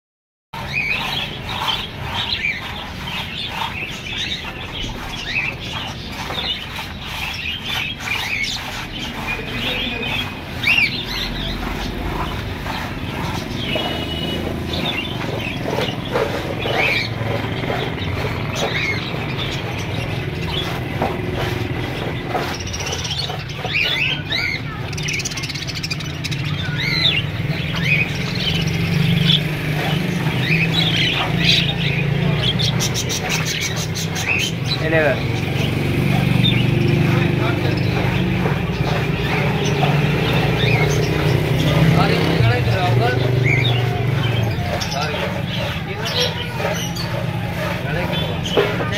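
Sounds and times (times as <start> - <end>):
budgerigars chattering: 0.6 - 48.9.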